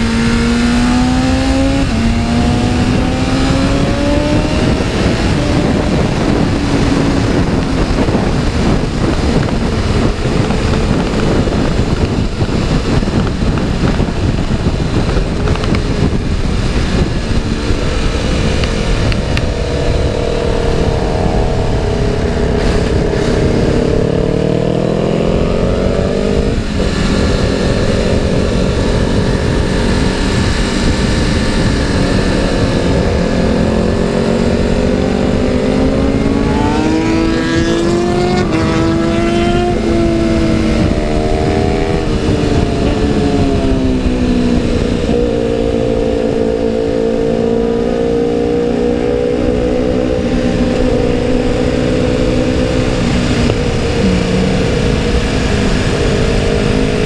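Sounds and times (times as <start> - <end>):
motorcycle engine revving: 0.0 - 57.0
wind rush on microphone: 0.0 - 57.0.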